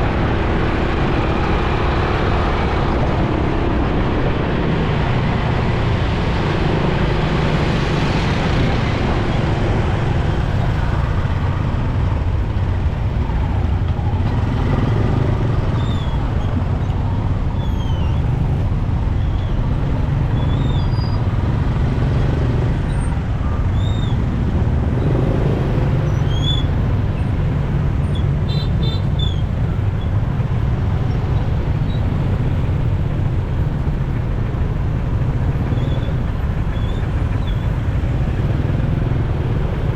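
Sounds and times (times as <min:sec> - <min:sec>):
motorcycle engine drone: 0:00.0 - 0:39.9
surrounding traffic: 0:00.0 - 0:39.9.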